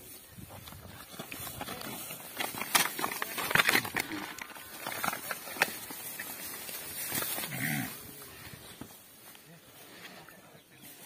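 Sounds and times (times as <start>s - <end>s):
straw crackling under hooves: 0.0s - 11.0s.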